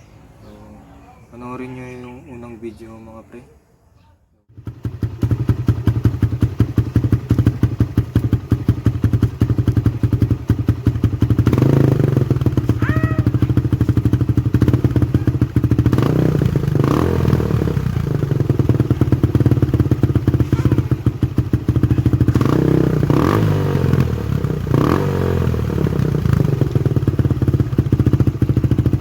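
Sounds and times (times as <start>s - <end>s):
motorcycle engine popping exhaust: 4.5s - 29.0s.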